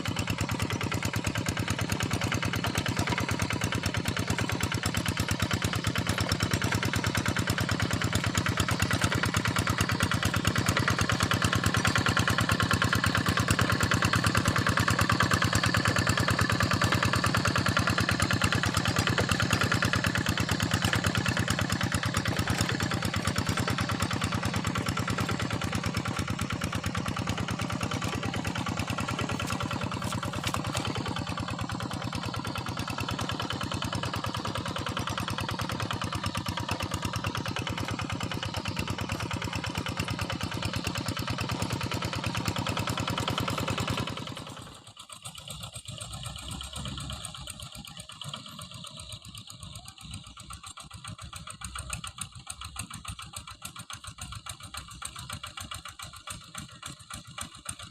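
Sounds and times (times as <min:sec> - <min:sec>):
diesel tractor engine running: 0:00.0 - 0:57.9.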